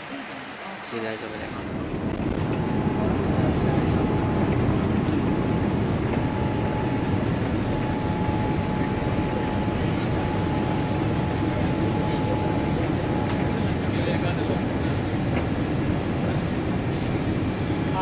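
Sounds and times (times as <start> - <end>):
thin steady whine: 0.0 - 18.0
airplane cabin engine rumble: 1.3 - 18.0.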